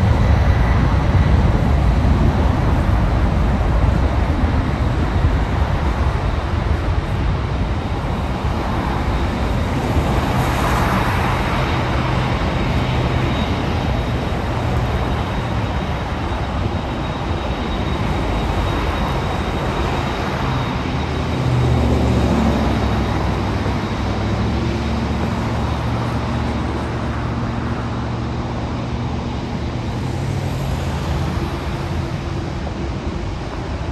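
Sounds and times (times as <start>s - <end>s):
cars passing: 0.0s - 33.9s
jet engines rumbling: 0.0s - 33.9s.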